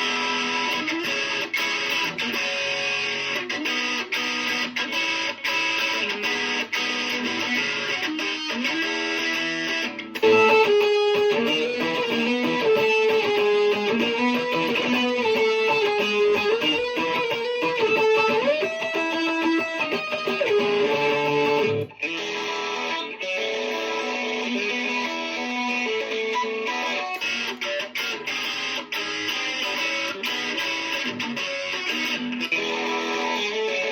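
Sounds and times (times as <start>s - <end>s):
guitar chords picked and strummed: 0.0s - 33.9s
sustained guitar melody: 0.0s - 33.9s.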